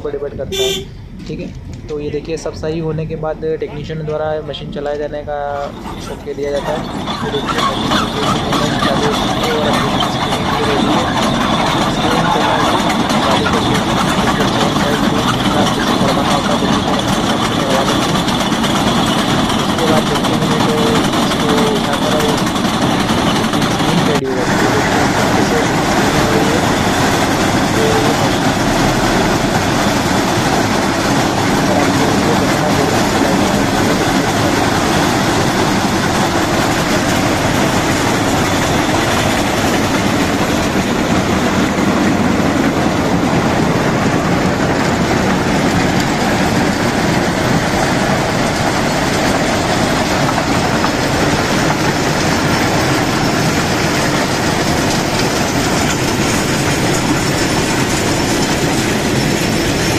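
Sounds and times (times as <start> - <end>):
machine engines running: 0.0 - 59.9
excavating chain digging ballast: 5.5 - 59.9.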